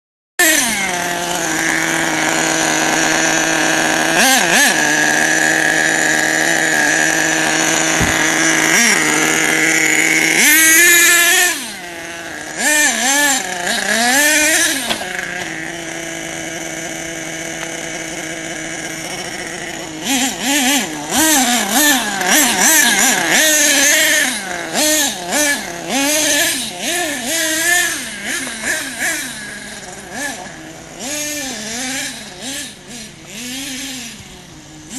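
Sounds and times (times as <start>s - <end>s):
small nitro engine revving: 0.4s - 34.9s.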